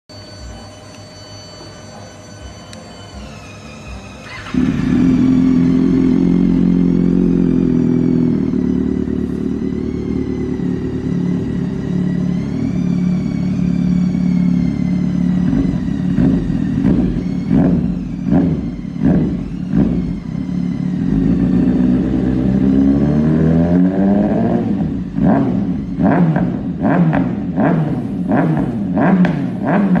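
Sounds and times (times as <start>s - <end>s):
motorcycle engine idling and revving: 3.0s - 30.0s.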